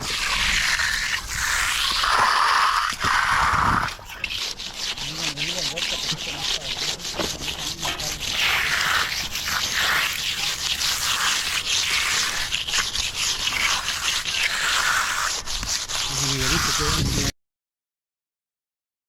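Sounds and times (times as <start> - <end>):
tool scraping fresh concrete: 0.0 - 17.4.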